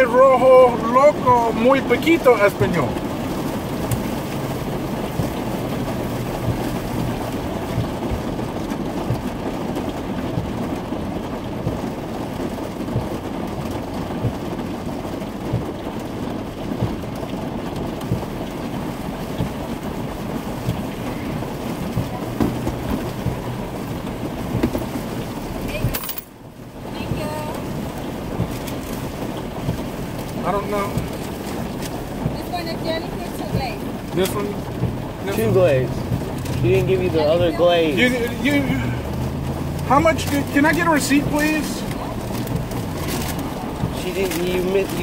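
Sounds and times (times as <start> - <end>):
car idling cabin rumble: 0.0 - 45.0.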